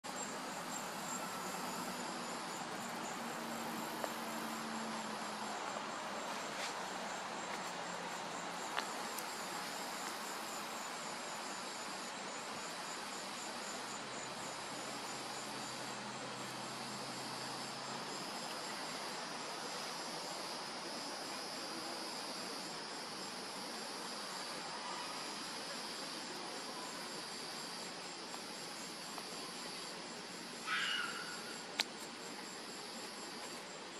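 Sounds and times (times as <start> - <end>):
insects chirring: 0.0 - 33.9.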